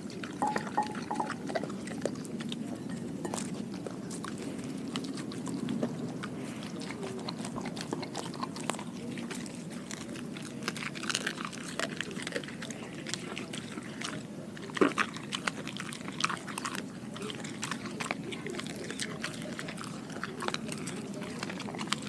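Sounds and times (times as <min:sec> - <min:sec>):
dog chewing raw fish: 0:00.0 - 0:22.0.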